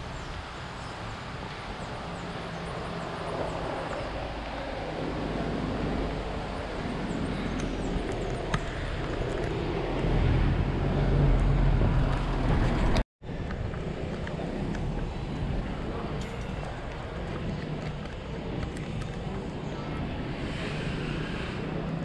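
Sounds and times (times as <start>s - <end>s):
road noise: 0.0s - 22.0s
wind on microphone: 0.0s - 22.0s.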